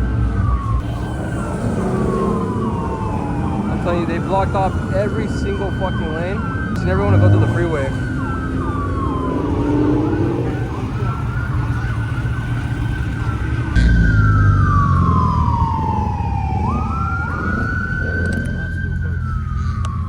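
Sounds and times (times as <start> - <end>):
car engines rumbling: 0.0 - 20.0
faint second siren: 0.0 - 20.0
police siren wailing: 0.0 - 20.0.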